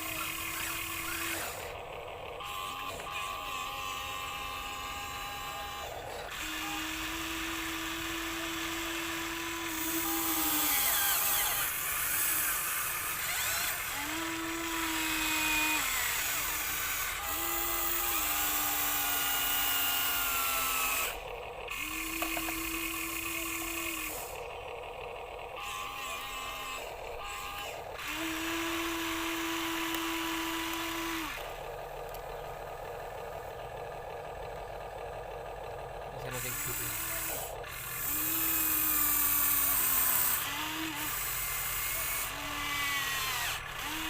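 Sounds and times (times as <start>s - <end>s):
toy electric motors whining: 0.0s - 44.0s.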